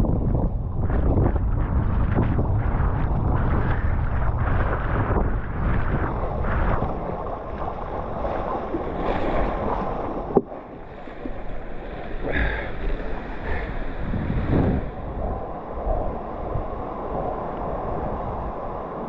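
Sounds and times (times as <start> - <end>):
wind buffeting microphone: 0.0 - 19.0
rushing water: 0.8 - 19.0.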